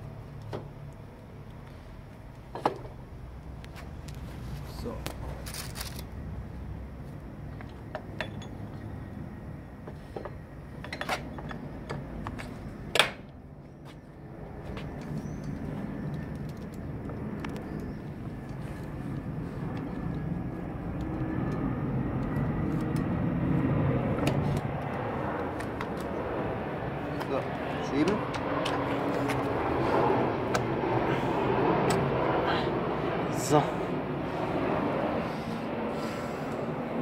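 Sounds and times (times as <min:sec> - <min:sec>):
low rumble of road vehicle: 0:00.0 - 0:37.0.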